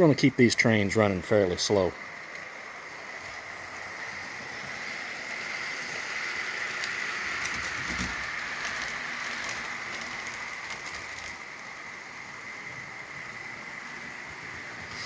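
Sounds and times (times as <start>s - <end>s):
model train wheel and motor whine: 0.0s - 15.0s.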